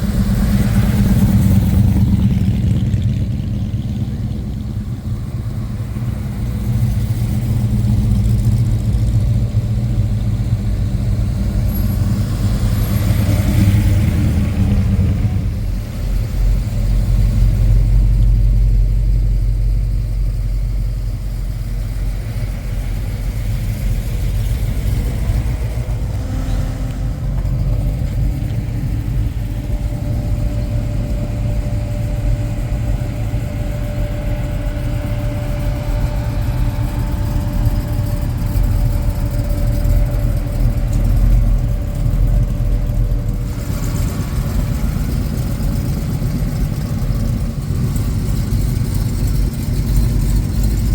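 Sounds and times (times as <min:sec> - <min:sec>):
car engines idling: 0:00.0 - 0:50.9.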